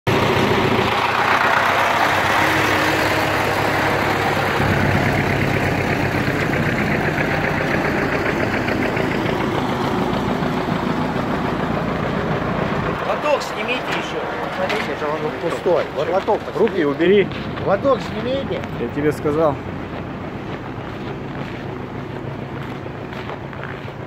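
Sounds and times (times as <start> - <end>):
diesel truck engine idling: 0.1 - 24.0.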